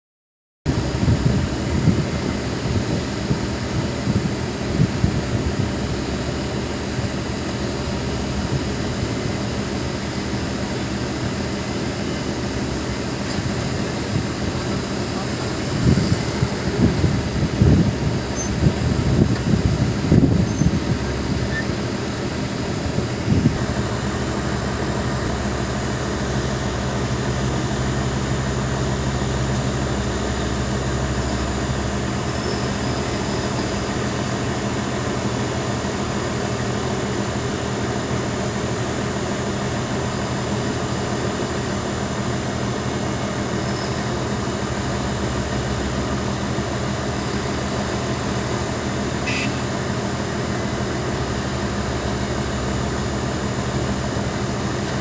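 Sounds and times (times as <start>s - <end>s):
excavator diesel engine running: 0.7s - 55.0s.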